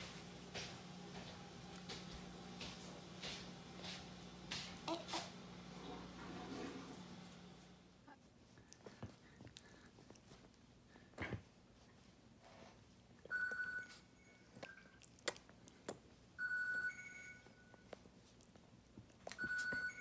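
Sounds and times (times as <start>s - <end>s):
faint clicks and rustles: 0.0s - 20.0s.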